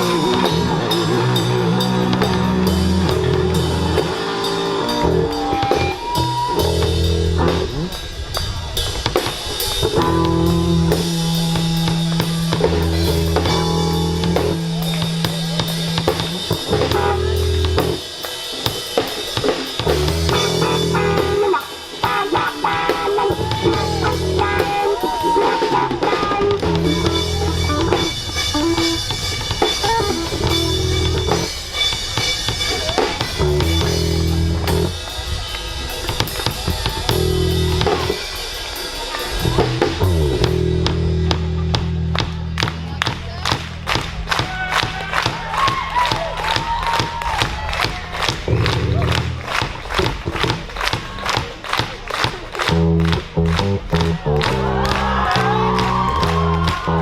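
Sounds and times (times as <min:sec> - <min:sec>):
bass guitar: 0:00.0 - 0:38.4, 0:39.2 - 0:57.0
electric guitar: 0:00.0 - 0:51.4, 0:52.2 - 0:57.0
drum kit: 0:00.0 - 0:57.0.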